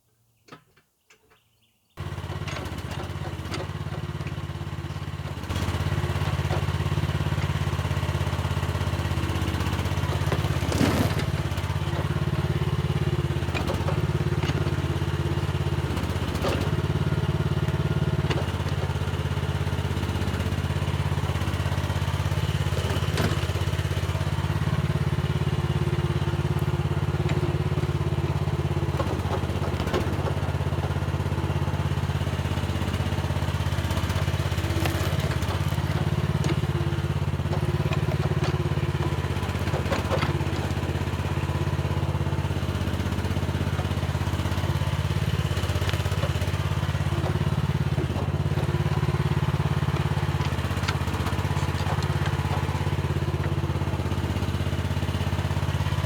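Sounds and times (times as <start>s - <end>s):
excavator diesel engine running: 2.0s - 56.0s.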